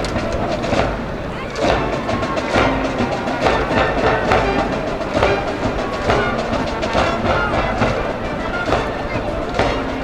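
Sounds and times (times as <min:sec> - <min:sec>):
steady drum beat: 0:00.0 - 0:10.0
brass playing a tune: 0:01.6 - 0:10.0.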